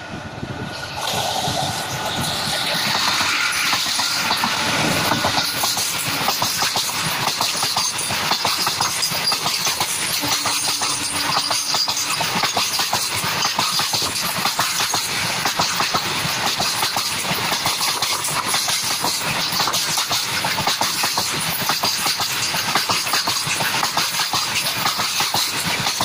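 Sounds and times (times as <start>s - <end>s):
train wheels clattering over rail joints: 2.1s - 26.0s.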